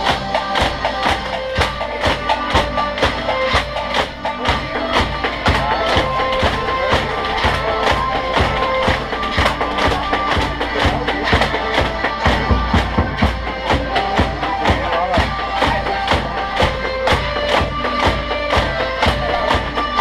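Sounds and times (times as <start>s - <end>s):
held instrumental notes: 0.0s - 20.0s
steady drum beat: 0.0s - 20.0s.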